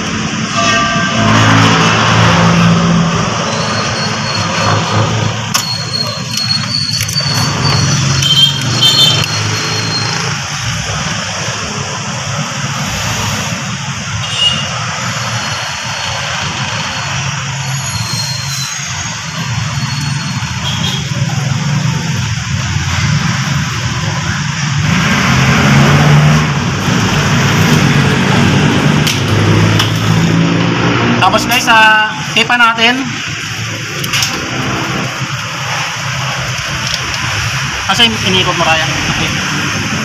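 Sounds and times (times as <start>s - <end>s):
low traffic hum: 0.0s - 40.0s
vehicle engines passing: 0.0s - 40.0s.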